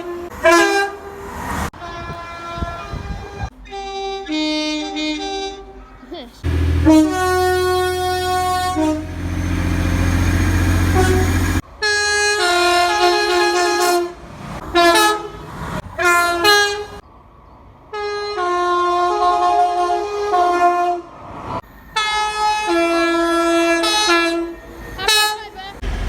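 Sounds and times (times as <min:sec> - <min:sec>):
two-tone train horn blasts: 0:00.0 - 0:01.2, 0:01.8 - 0:05.8, 0:06.4 - 0:15.4, 0:16.0 - 0:17.0, 0:17.9 - 0:21.1, 0:22.0 - 0:25.6
low train rumble: 0:00.0 - 0:04.2, 0:06.4 - 0:26.0.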